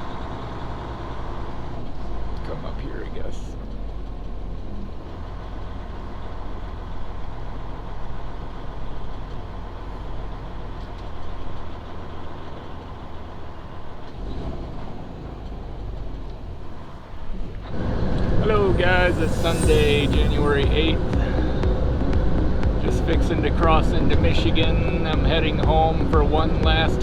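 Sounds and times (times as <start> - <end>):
truck diesel engine rumbling: 0.0 - 27.0.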